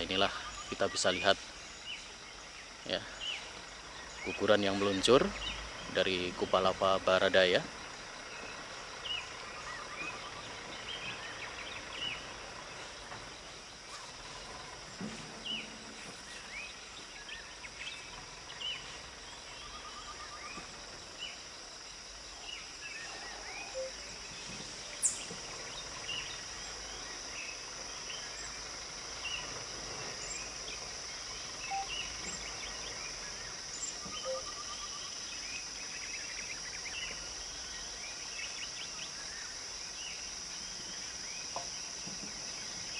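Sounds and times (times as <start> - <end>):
birds chirping: 0.0 - 42.9
insect drone: 0.0 - 42.9.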